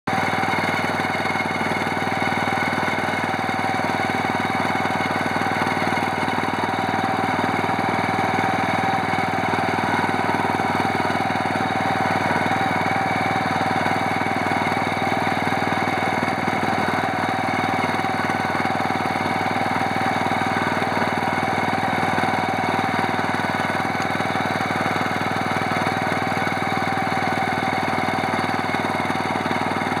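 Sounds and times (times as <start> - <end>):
cultivator engine running: 0.1 - 30.0.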